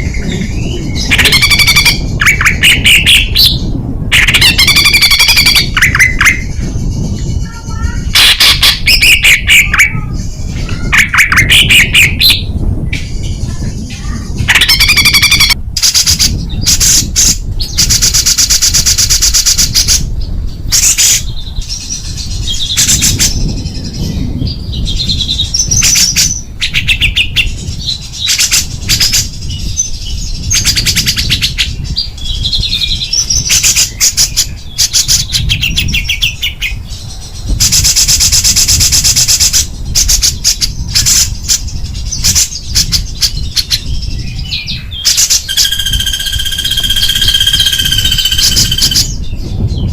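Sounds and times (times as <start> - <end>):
songbird singing rattling trills: 0.0 - 49.9.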